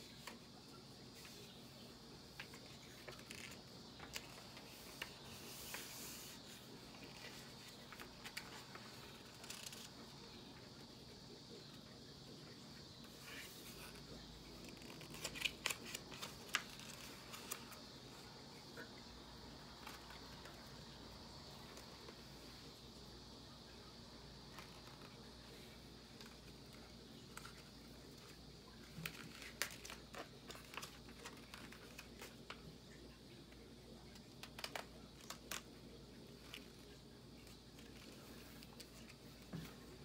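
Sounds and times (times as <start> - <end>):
book pages turning: 0.0 - 10.9, 13.0 - 18.9, 19.6 - 22.4, 24.5 - 32.8, 34.0 - 40.0
faint steady hiss: 0.0 - 40.0.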